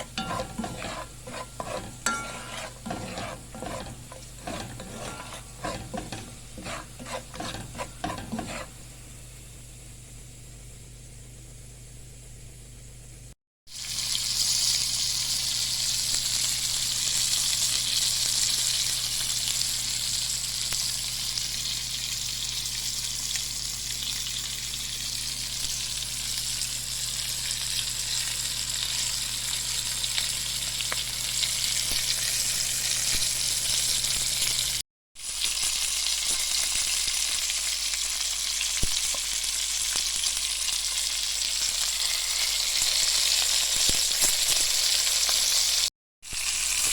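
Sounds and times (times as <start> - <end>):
food sizzling in a hot pan: 0.0 - 9.5, 13.7 - 46.9.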